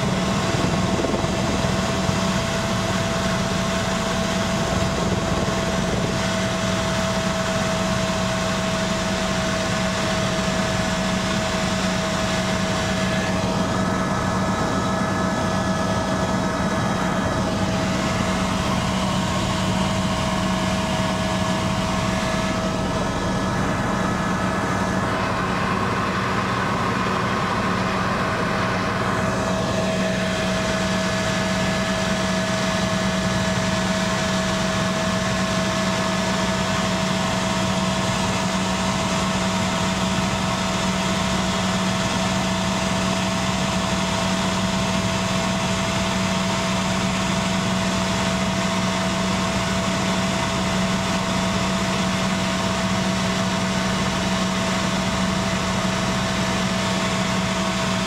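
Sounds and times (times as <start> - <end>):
helicopter rotor drone: 0.0 - 58.0
helicopter turbine whine: 0.0 - 58.0.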